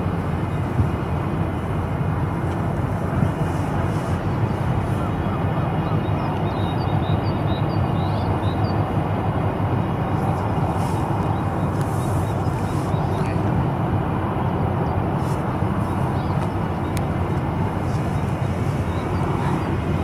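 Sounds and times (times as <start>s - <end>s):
large ship engine rumble: 0.0s - 20.0s.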